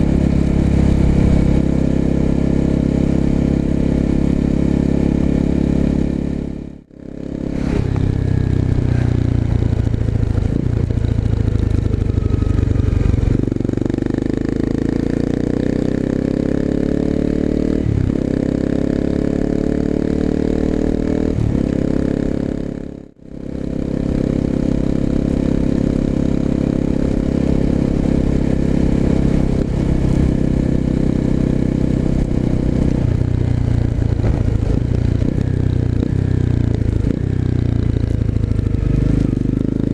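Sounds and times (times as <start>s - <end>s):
motorcycle exhaust accelerating: 0.0s - 39.9s.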